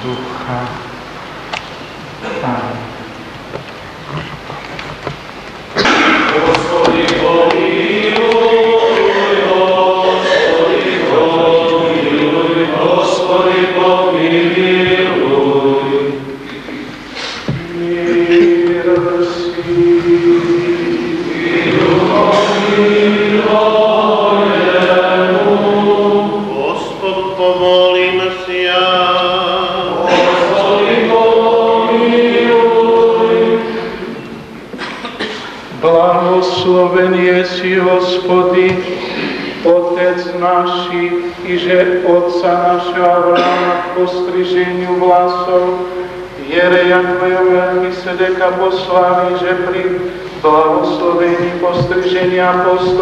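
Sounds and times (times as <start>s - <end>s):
voices chanting a hymn: 5.8s - 53.0s.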